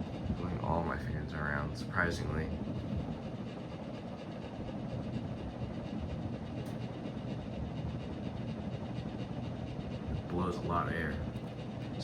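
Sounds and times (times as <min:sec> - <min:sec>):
ceiling fan blades whooshing: 0:00.0 - 0:12.0
fan motor buzz: 0:00.0 - 0:12.0.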